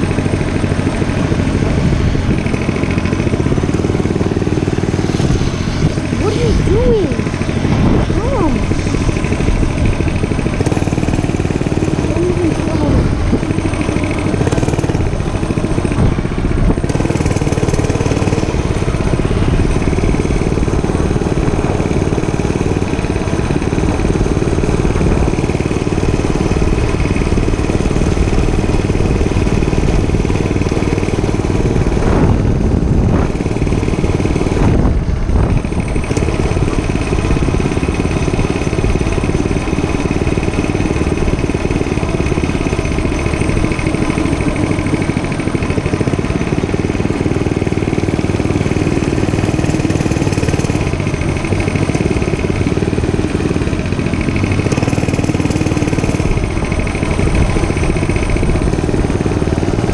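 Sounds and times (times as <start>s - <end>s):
dirt bike motor running: 0.0s - 59.9s.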